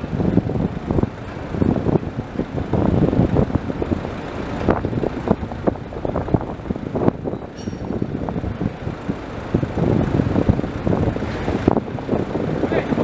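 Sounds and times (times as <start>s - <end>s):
machinery low rumble: 0.0s - 13.0s.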